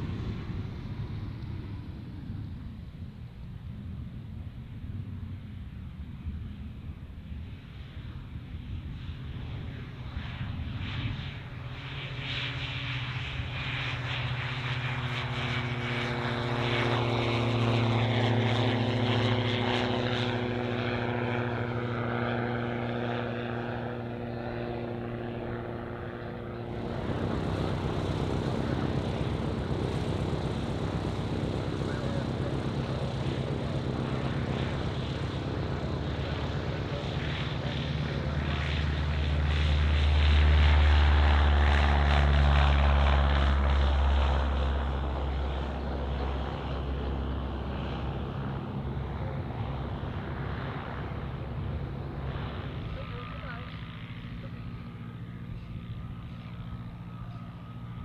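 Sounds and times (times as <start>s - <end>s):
propeller aircraft engine running: 0.0s - 58.0s.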